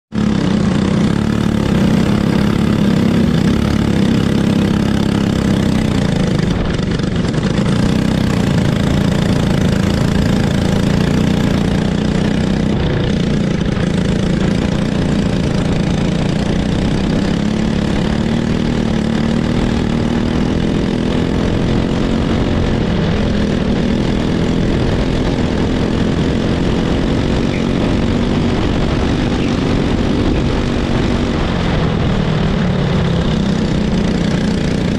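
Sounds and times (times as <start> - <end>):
kart engine running: 0.1 - 34.9.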